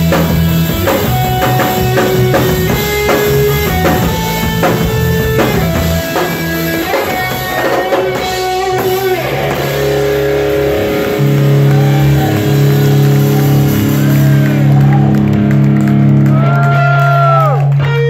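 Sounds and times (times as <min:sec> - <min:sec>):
electric bass and guitar droning: 0:00.0 - 0:18.0.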